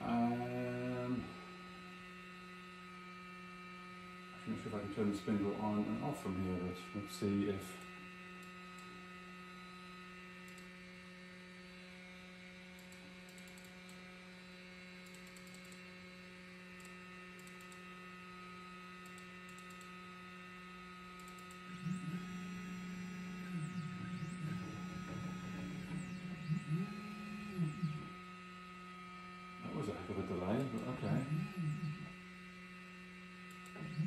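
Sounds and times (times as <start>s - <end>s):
low electrical hum: 0.0s - 34.0s
stepper motor whir: 0.0s - 34.0s.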